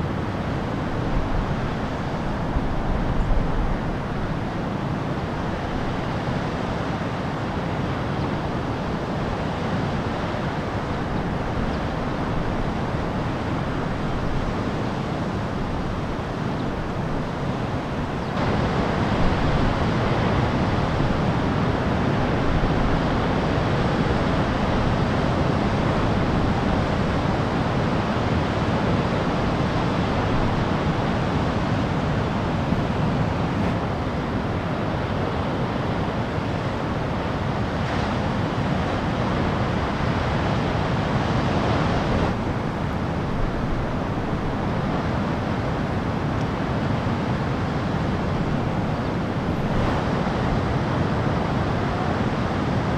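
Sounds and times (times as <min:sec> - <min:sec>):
ocean surf breaking: 0:00.0 - 0:52.9
wind noise on microphone: 0:00.0 - 0:52.9.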